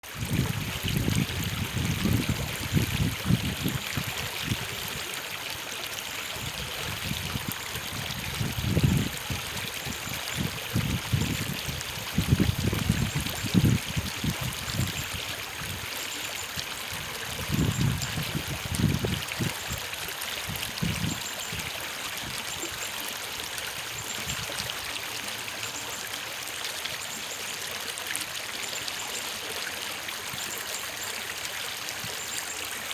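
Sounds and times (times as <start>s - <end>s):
stream flowing: 0.0s - 32.9s.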